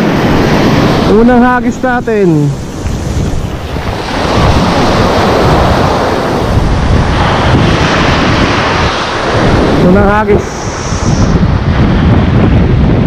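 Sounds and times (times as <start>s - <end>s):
waves surging on shore: 0.0s - 13.0s
wind buffeting microphone: 0.0s - 13.0s.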